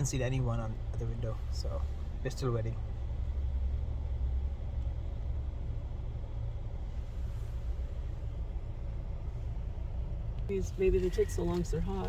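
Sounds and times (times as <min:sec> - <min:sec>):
car idling inside cabin: 0:00.0 - 0:12.0.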